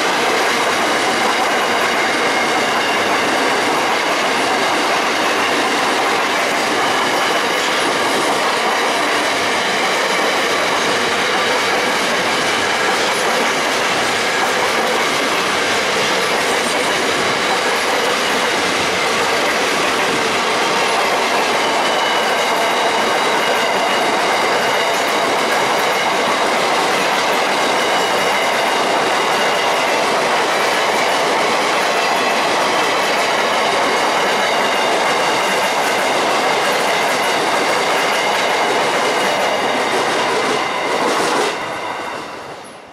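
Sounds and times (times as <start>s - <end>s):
clickety-clack over rail joints: 0.0s - 42.8s
train wheels rumbling on rail: 0.0s - 42.9s.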